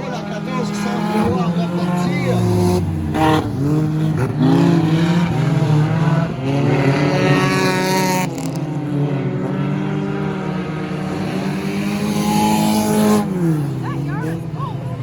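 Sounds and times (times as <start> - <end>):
stock car engines running loudly: 0.0 - 15.0.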